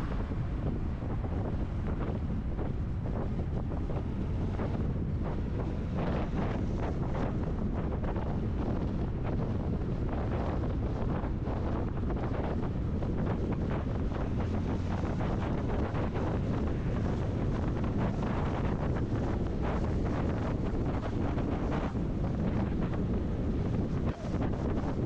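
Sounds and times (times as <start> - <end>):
vehicle road noise: 0.0 - 25.0
wind buffeting microphone: 0.0 - 25.0.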